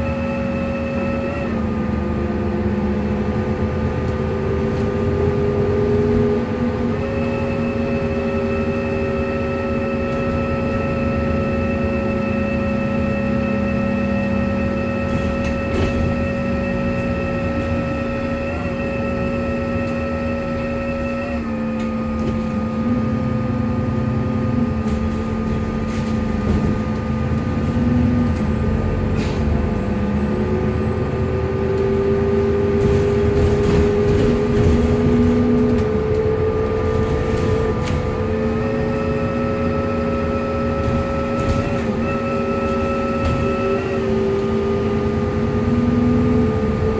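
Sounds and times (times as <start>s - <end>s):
bus engine whirring whine: 0.0s - 46.9s.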